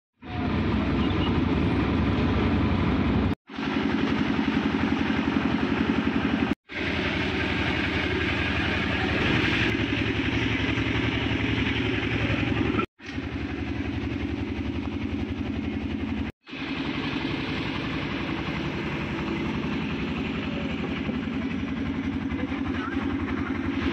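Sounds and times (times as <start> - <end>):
diesel engine idling: 0.2 - 23.9.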